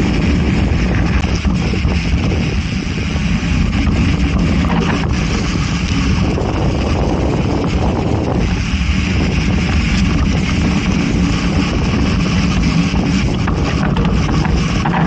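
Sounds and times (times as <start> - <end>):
bike tyres rolling on dirt: 0.0 - 15.0
wind buffeting microphone: 0.0 - 15.0.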